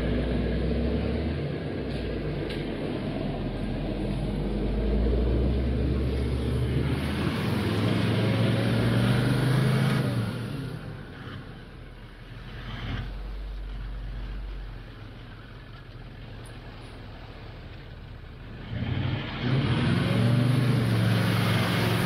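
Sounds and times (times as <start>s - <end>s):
vehicle engine running: 0.0s - 22.0s
water sloshing around tyres: 0.0s - 22.0s.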